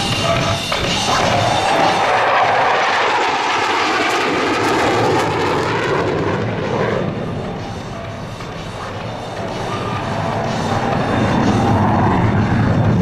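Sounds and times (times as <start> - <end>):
jet passing close: 0.0 - 13.0.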